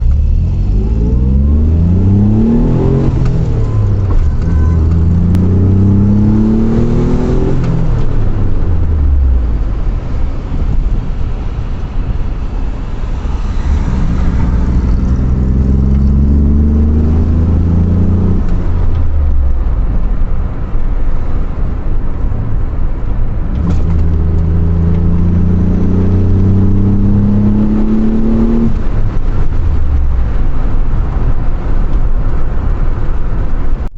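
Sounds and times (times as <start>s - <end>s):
car engine accelerating through gears: 0.0s - 33.9s.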